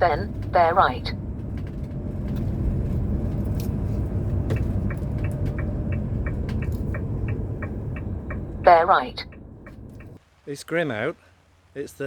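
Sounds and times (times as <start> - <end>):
turn indicator ticking: 0.0 - 10.2
engine and road rumble: 0.0 - 10.4.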